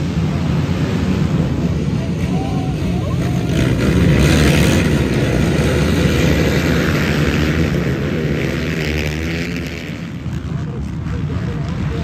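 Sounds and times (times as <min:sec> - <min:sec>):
racing quad engines accelerating: 0:00.0 - 0:12.0.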